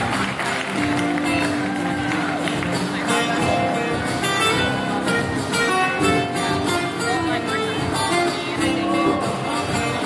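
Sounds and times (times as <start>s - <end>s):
live band playing: 0.0s - 10.0s.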